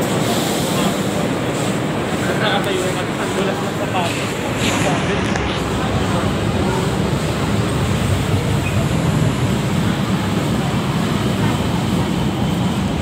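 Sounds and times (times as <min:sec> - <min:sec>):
light rail train rumbling: 0:00.0 - 0:13.0.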